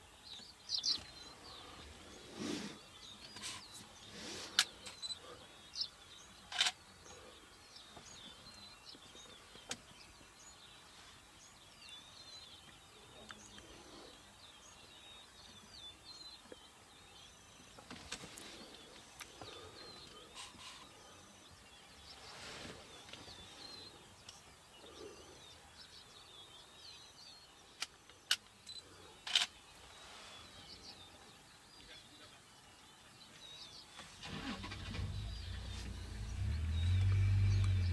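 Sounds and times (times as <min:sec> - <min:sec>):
birds calling and twittering: 0:00.0 - 0:37.9
faint background hiss: 0:00.0 - 0:37.9.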